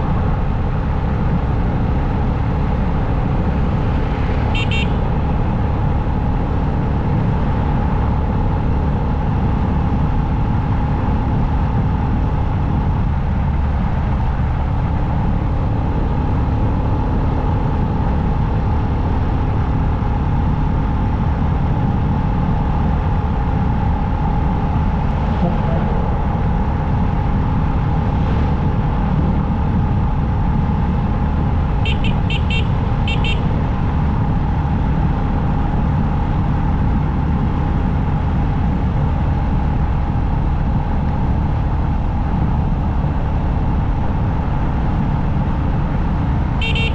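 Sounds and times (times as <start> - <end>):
motorcycle engine drone: 0.0 - 46.9
road noise: 0.0 - 46.9.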